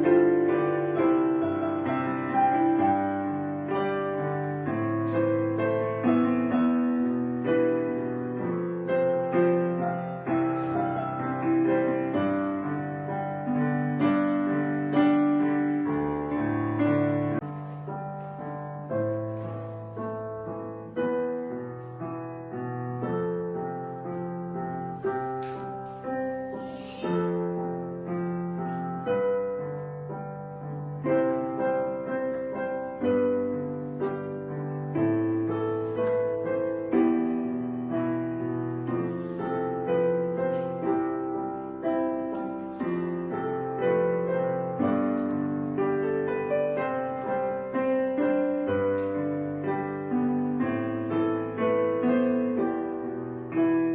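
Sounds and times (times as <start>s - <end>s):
slow solo piano: 0.0s - 53.9s.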